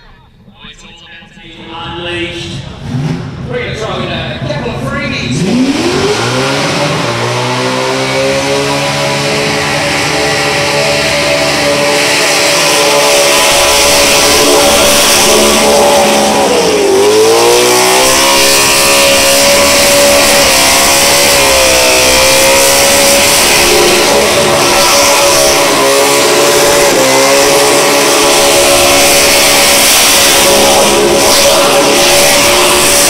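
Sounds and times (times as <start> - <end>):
engine revving high: 1.4 - 33.0.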